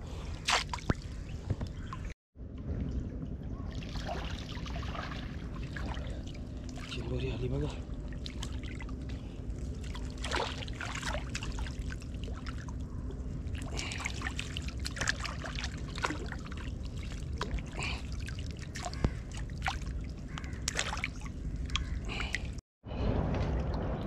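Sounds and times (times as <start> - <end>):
steady low hum: 0.0 - 24.0
water trickling and splashing: 2.8 - 22.6.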